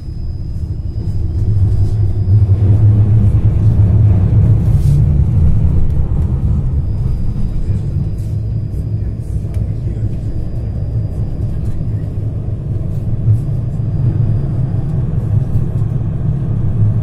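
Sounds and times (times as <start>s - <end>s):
thin high whine: 0.0s - 17.0s
tram rumbling on rails: 0.0s - 17.0s.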